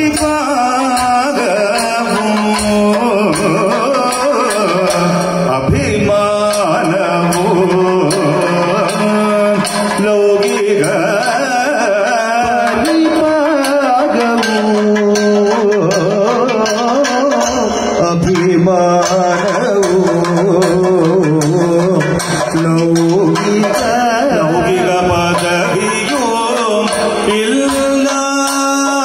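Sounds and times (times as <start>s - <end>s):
drums beating: 0.0s - 29.0s.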